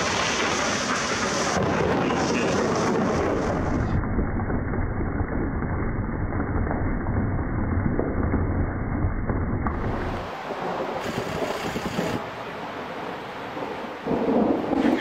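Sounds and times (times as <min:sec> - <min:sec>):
heavy rain pouring: 0:00.0 - 0:07.3, 0:09.7 - 0:15.0
deep thunder rumble: 0:00.0 - 0:12.3, 0:13.0 - 0:15.0.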